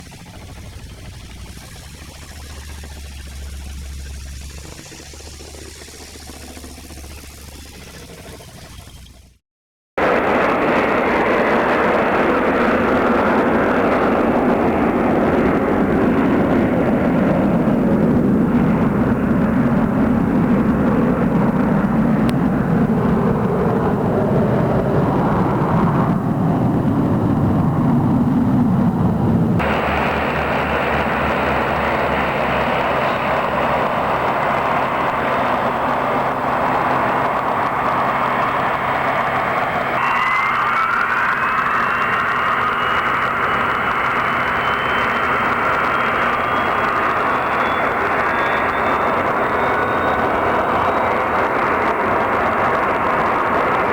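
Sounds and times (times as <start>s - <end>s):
thin rising whine: 0.0s - 9.3s, 10.0s - 53.9s
hissy aircraft engine noise: 10.0s - 53.9s
jet airliner taking off: 10.0s - 53.9s.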